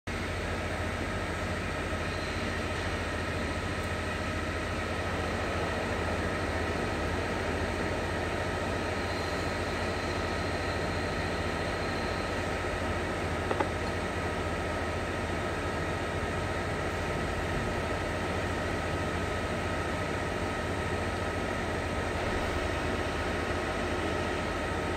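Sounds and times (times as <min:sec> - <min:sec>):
machine hum and hiss: 0:00.1 - 0:24.9.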